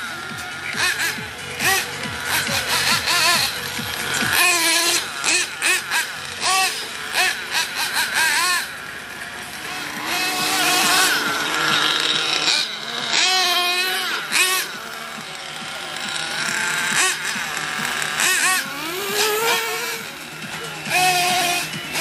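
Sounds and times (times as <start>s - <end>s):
small two-stroke engine whining: 0.0s - 22.0s.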